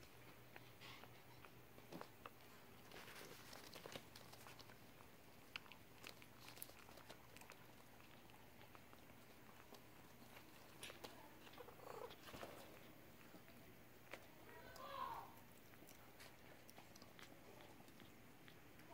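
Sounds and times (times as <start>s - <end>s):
faint low hum: 0.0s - 18.9s
faint ticks and rustles: 0.0s - 18.9s.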